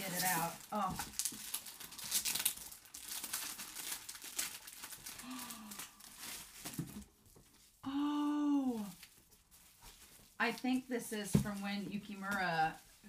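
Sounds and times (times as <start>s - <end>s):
cardboard and paper crinkling: 0.0s - 7.8s, 8.6s - 13.0s.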